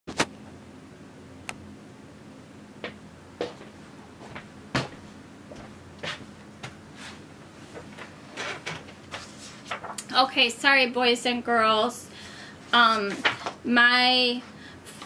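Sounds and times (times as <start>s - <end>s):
low room hum: 0.1s - 15.0s.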